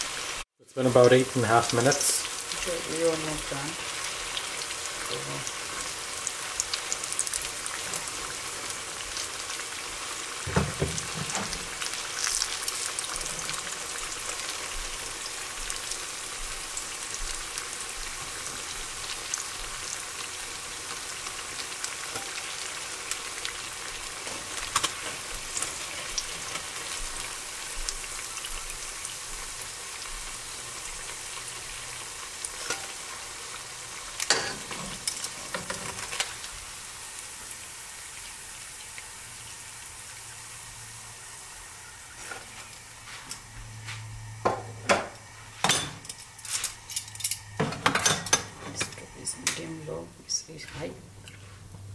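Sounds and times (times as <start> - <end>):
food sizzling in hot oil: 0.0 - 51.3.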